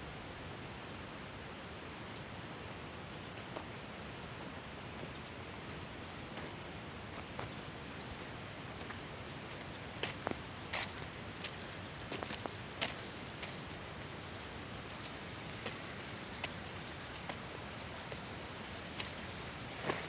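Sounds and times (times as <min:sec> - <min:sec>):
steady background hiss: 0:00.0 - 0:20.0
small birds chirping: 0:02.1 - 0:02.5, 0:03.3 - 0:20.0.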